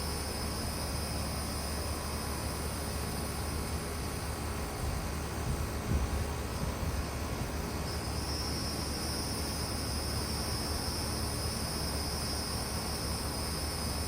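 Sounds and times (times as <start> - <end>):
fan air rushing: 0.0 - 14.0
high-pitched whine: 0.0 - 14.0.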